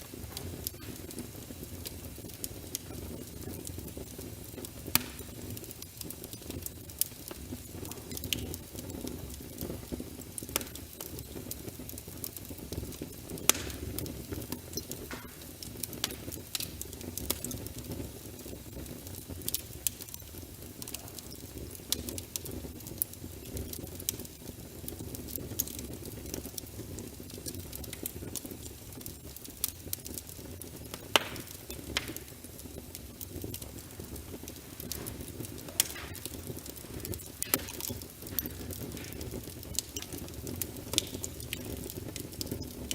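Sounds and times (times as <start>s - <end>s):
low fire rumble: 0.0s - 42.9s
wood fire crackling and popping: 0.0s - 42.9s.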